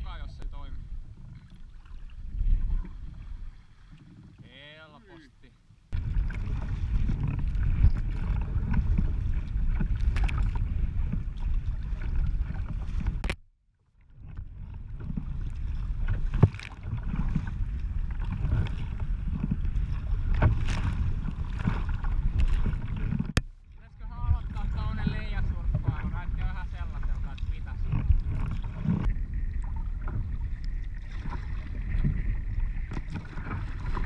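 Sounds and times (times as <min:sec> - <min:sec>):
water splashing against hull: 0:00.0 - 0:34.0
wind buffeting microphone: 0:05.9 - 0:13.4, 0:14.2 - 0:34.0.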